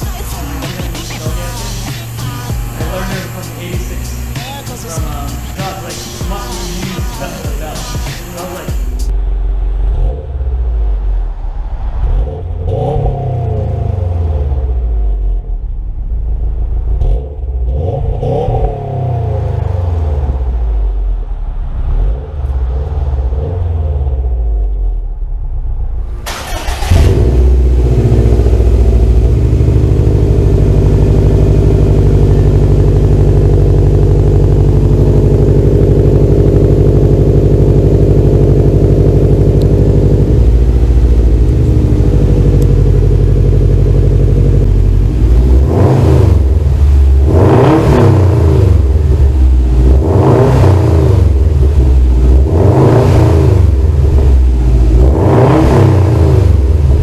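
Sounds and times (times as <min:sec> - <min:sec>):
car engine revving: 0:00.0 - 0:57.0
car engine starting and idling: 0:00.0 - 0:57.0.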